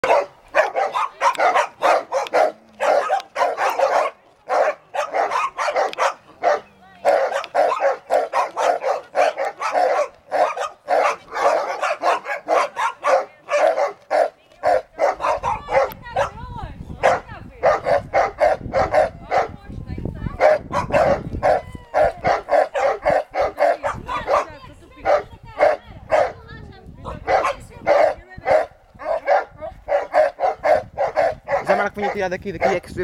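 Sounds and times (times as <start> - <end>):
dogs barking: 0.0 - 19.6, 20.3 - 33.0.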